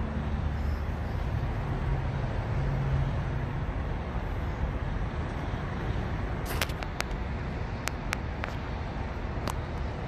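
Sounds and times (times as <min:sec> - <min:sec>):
low outdoor traffic noise: 0:00.0 - 0:10.0.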